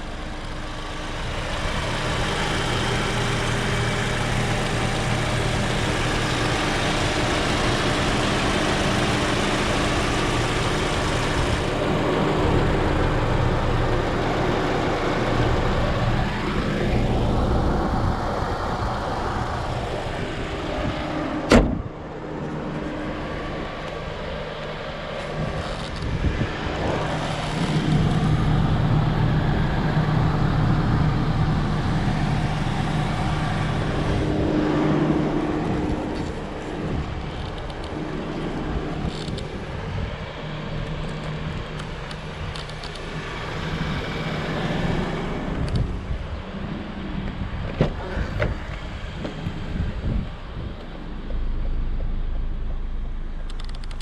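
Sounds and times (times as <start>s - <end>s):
car engine running: 0.0s - 54.0s
tyre and road noise: 0.0s - 54.0s.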